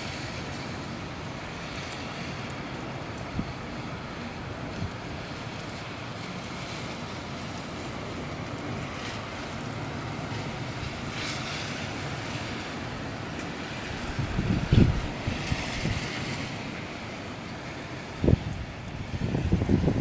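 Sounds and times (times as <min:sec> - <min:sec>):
gusty wind: 0:00.0 - 0:20.0
rain: 0:00.0 - 0:20.0.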